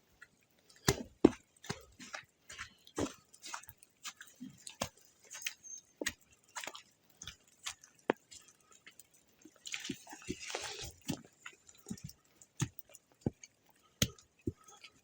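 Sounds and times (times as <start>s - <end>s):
footsteps on forest trail: 0.2s - 15.0s.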